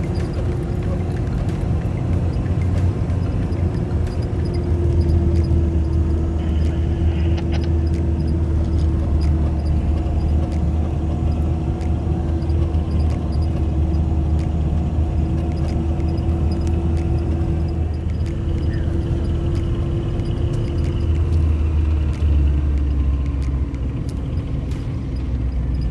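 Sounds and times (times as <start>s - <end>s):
vehicle engine droning: 0.0s - 25.9s.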